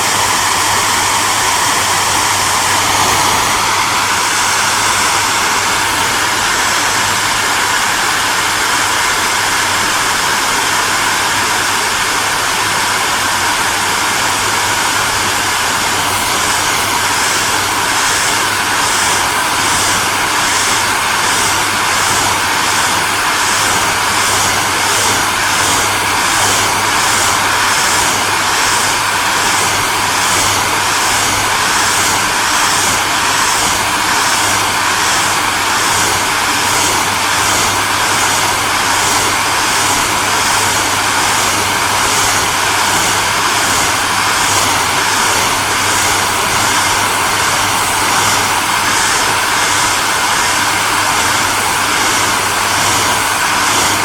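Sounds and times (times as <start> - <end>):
hairdryer running: 0.0 - 54.0.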